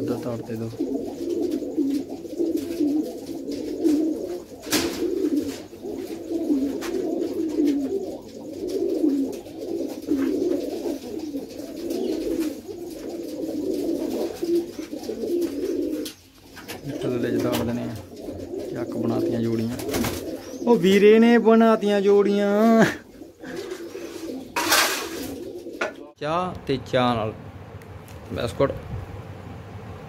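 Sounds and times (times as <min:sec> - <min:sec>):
pigeons cooing: 0:00.0 - 0:26.2.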